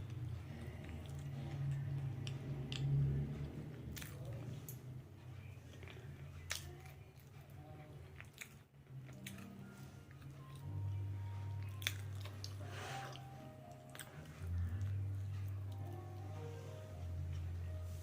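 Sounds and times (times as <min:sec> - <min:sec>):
person chewing: 0:00.0 - 0:04.8, 0:05.6 - 0:16.0
low steady hum: 0:00.0 - 0:18.0.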